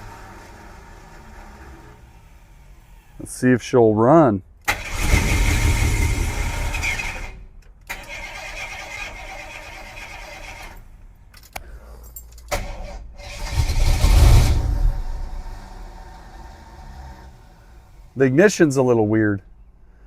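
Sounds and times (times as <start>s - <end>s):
engine cranking by starter: 0.0s - 3.3s, 4.6s - 18.2s.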